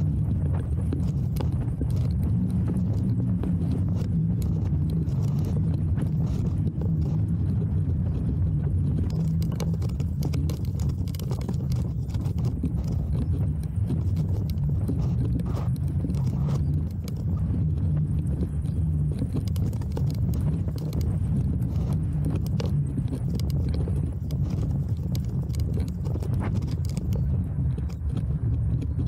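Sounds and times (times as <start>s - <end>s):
bicycle rolling over dirt track: 0.0s - 29.0s
bike rattling and knocking: 0.0s - 29.0s.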